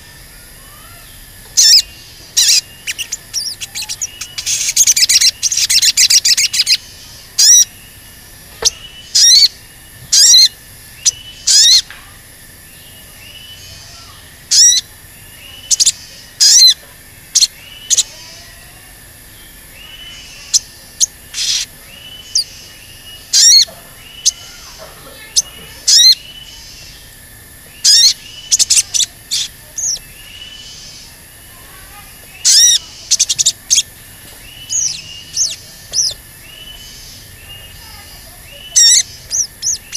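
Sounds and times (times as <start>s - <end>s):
sunbird sharp high calls: 0.0s - 39.9s
bird rapid chattering: 0.8s - 11.9s, 12.8s - 39.9s.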